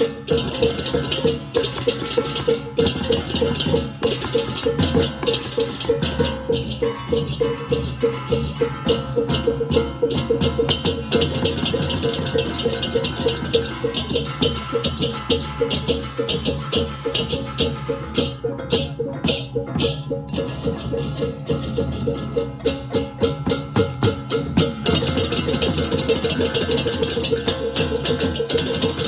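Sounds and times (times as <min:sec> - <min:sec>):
crash cymbals clashing: 0:00.0 - 0:29.0
drums and gongs: 0:00.0 - 0:29.0.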